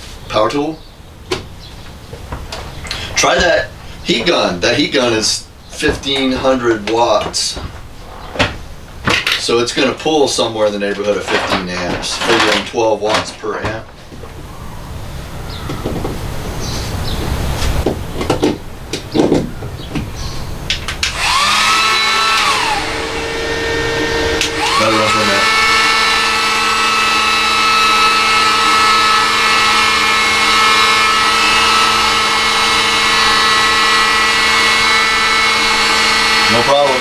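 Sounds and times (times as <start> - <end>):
heat gun fan whine: 0.0 - 37.0.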